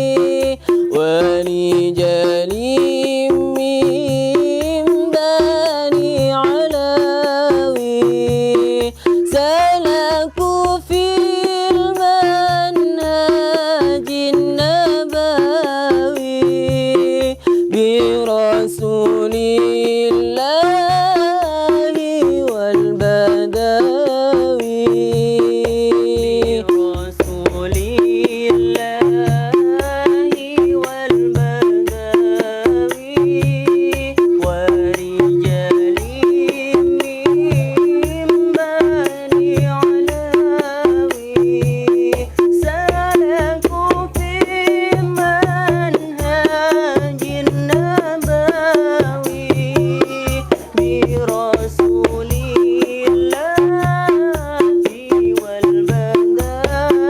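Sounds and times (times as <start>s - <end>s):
drum beat: 0.0s - 57.0s.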